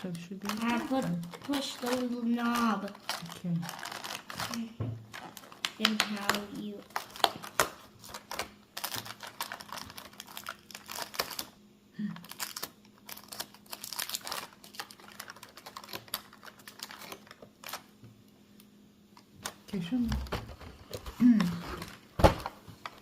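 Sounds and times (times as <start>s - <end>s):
cardboard clicking and crinkling: 0.0s - 11.5s, 12.2s - 17.9s, 19.4s - 23.0s.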